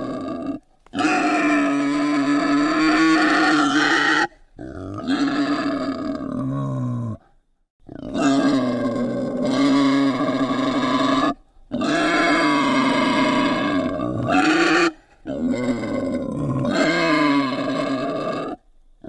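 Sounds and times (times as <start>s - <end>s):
wild boar grunting: 0.0s - 18.6s.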